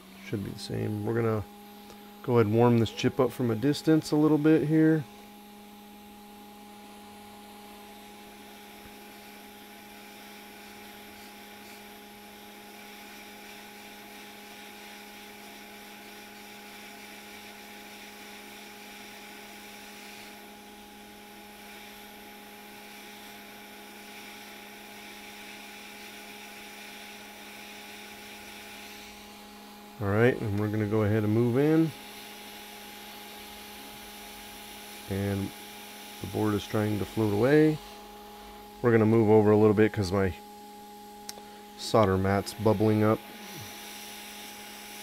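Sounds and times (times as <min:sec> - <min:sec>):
hot air blower hum and hiss: 0:00.0 - 0:45.0.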